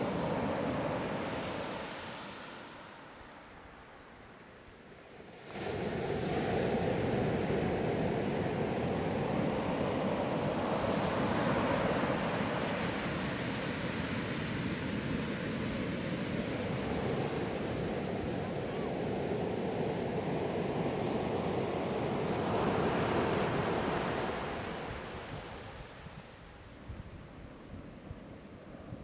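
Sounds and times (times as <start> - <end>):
surf breaking on a beach: 0.0 - 3.4, 5.2 - 27.4.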